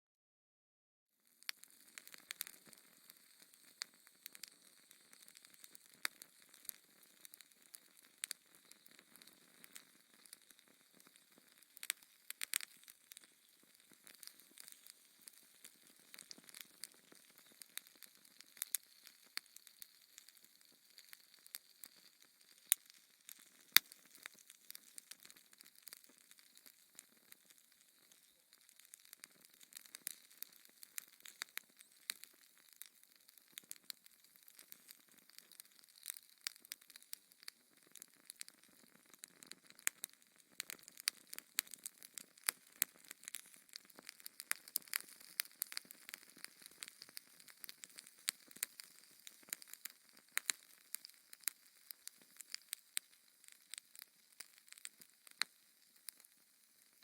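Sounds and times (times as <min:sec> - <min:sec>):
fire crackling and popping: 0:01.2 - 0:57.0.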